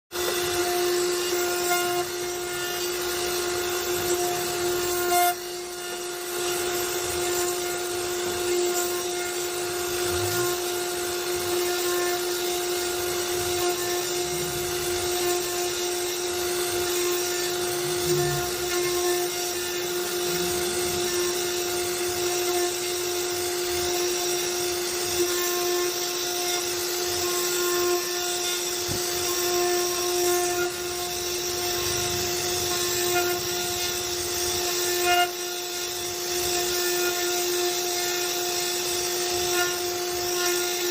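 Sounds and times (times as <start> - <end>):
router spindle whining: 0.1 - 40.9
bit cutting wood hiss: 0.2 - 40.9.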